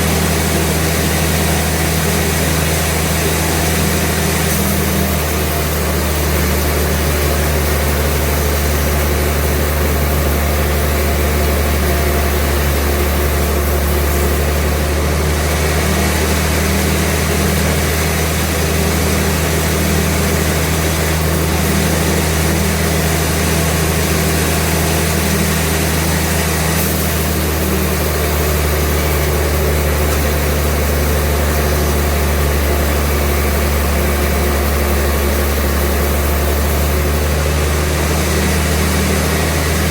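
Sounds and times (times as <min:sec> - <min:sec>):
engine hum: 0:00.0 - 0:39.9
noisy machinery rush: 0:00.0 - 0:39.9.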